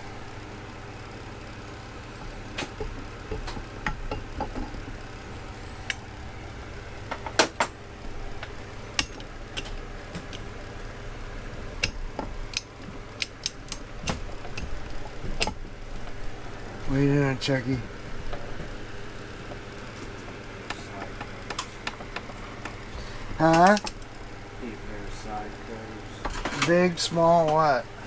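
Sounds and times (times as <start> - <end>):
low hum: 0.0 - 26.2.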